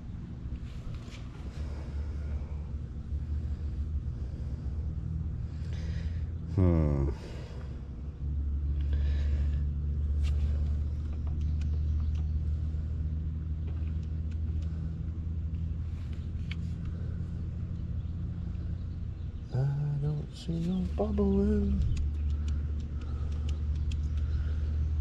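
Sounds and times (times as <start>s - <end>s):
faint hum: 0.0s - 25.0s
low engine-like rumble: 0.0s - 25.0s.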